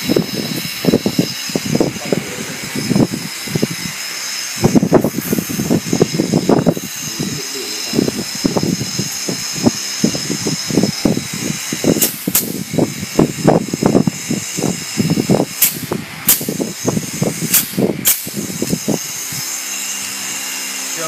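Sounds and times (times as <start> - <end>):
pneumatic fastening gun firing: 2.8 - 7.1, 8.0 - 20.7.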